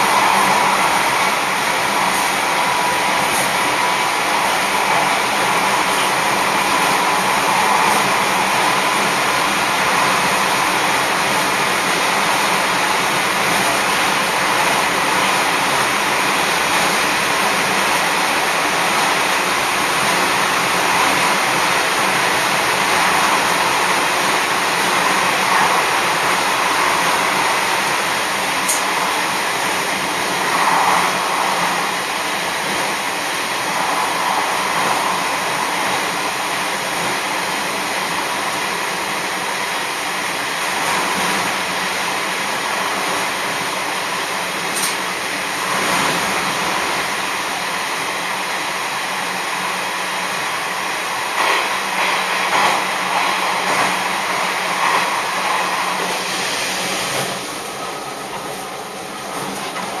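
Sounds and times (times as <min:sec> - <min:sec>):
railcar engine and wheels in tunnel: 0:00.0 - 1:00.0.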